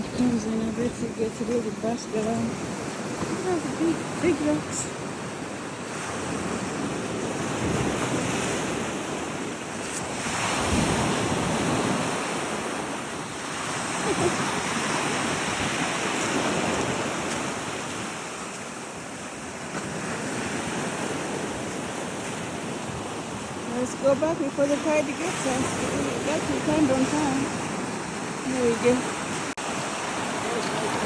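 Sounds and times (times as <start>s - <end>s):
ocean waves breaking on rocks: 0.0s - 31.0s.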